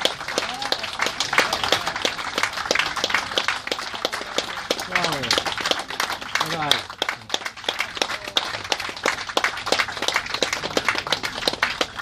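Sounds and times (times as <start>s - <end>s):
hands clapping: 0.0s - 12.0s.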